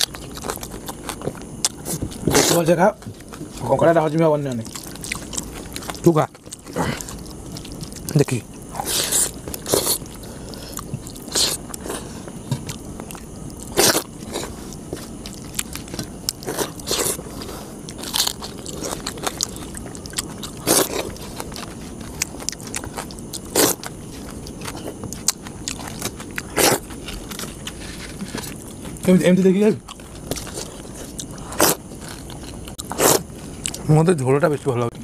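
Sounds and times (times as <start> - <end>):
people chewing and biting: 0.0 - 34.4.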